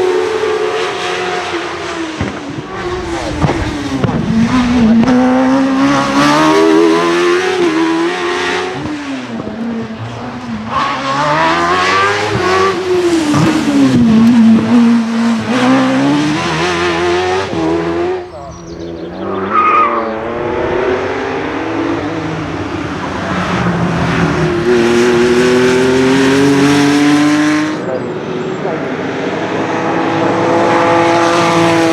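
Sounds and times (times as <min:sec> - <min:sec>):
racing car engine revving: 0:00.0 - 0:31.9.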